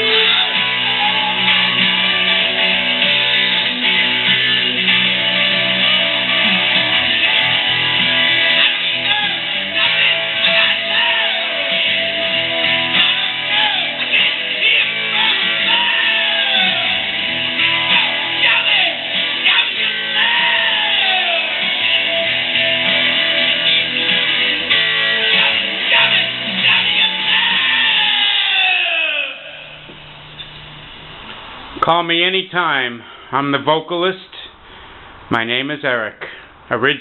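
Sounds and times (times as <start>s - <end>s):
rock music with guitar: 0.0s - 31.4s.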